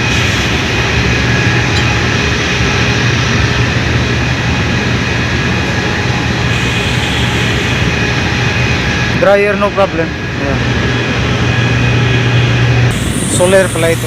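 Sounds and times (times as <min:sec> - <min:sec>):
power plant machinery drone: 0:00.0 - 0:14.0
steady whining tones: 0:00.0 - 0:14.0.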